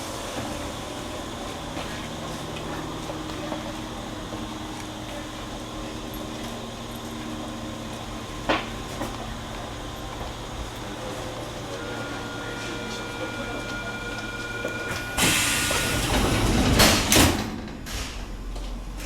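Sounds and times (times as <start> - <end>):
train mechanical hum: 0.0 - 19.0.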